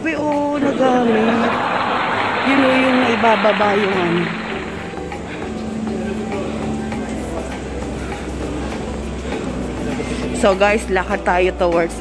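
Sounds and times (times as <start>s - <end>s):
crowd noise hum: 0.0s - 12.0s.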